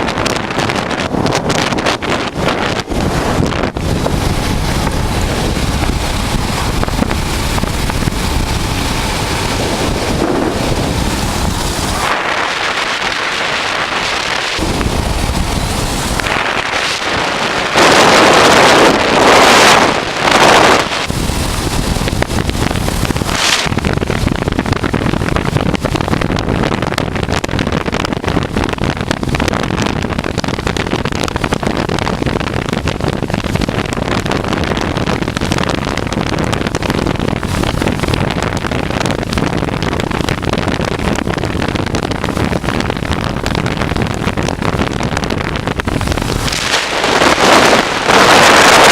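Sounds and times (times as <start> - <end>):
motorcycle engine riding: 0.0 - 48.9
wind noise on microphone: 0.0 - 48.9.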